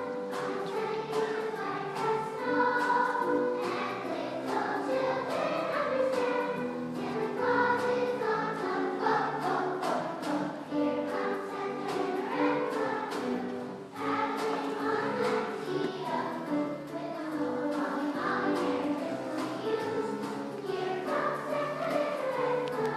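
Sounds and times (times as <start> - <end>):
girls' choir singing: 0.0 - 22.9.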